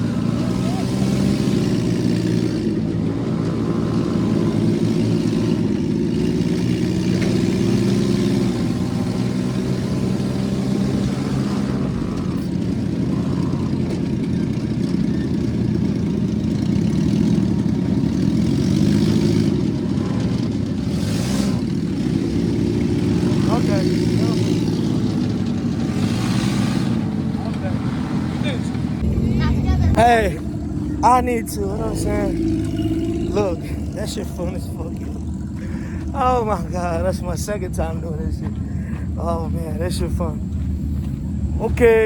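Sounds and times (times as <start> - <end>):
constant rushing noise: 0.0 - 42.0
engine running: 0.0 - 42.0.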